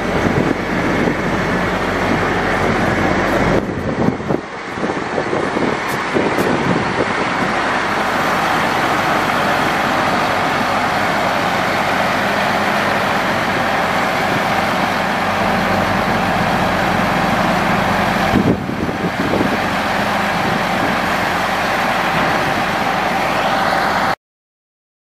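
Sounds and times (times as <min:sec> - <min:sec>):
diesel truck engine running: 0:00.0 - 0:24.2.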